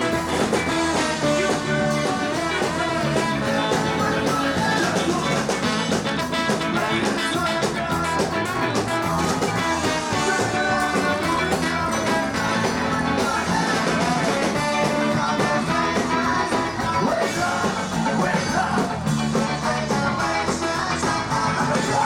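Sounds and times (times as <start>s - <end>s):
person singing: 0.0s - 22.0s
ska band playing live: 0.0s - 22.0s.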